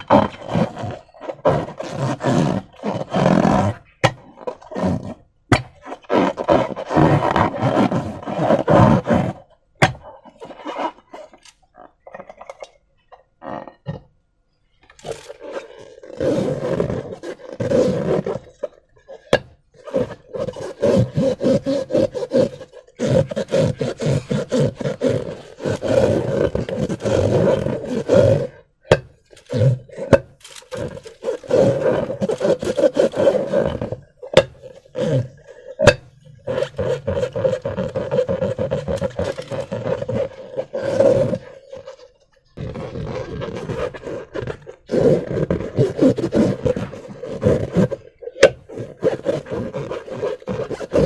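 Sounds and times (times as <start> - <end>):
slime squishing in balloons: 0.0 - 14.0, 14.6 - 51.0.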